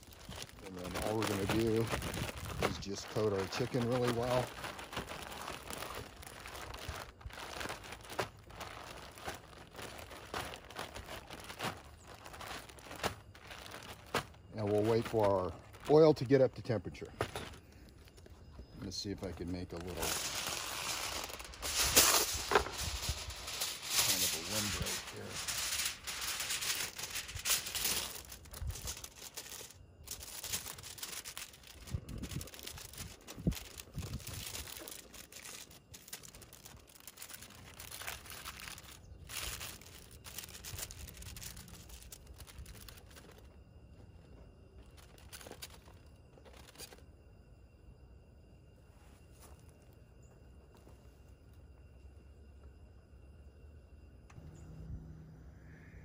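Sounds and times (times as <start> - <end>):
plastic bag crinkling: 0.0 - 43.6, 44.8 - 47.0.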